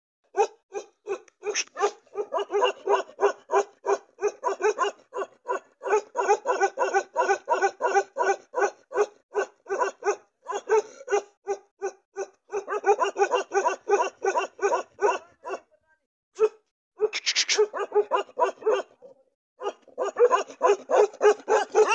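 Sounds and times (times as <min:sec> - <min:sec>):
large dogs barking deeply: 0:00.3 - 0:15.7, 0:16.4 - 0:21.9.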